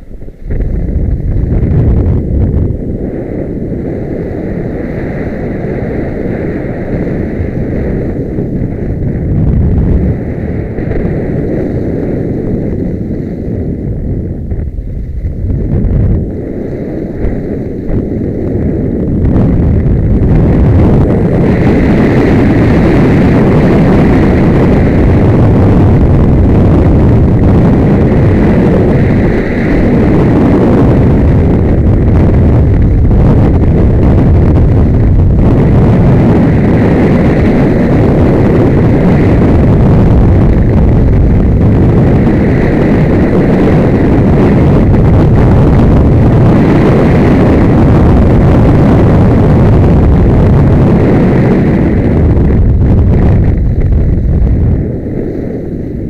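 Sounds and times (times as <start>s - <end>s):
loud wind over microphone: 0.0s - 56.0s.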